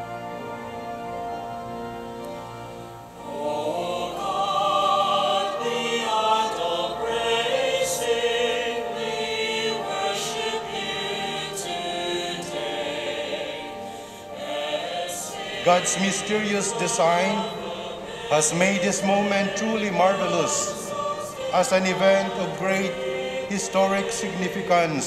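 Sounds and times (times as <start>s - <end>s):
choir singing sustained notes: 0.0s - 25.0s.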